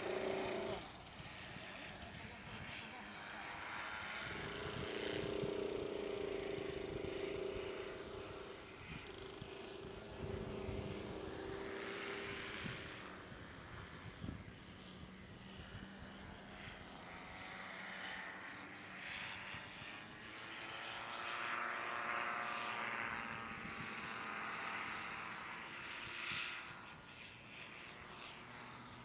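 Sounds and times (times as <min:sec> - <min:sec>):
model plane motor and propeller: 0:00.0 - 0:29.0.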